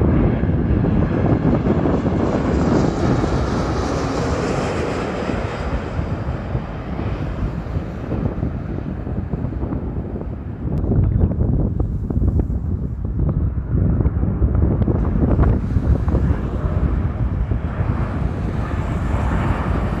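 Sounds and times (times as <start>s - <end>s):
jet airliner passing overhead: 0.0s - 20.0s.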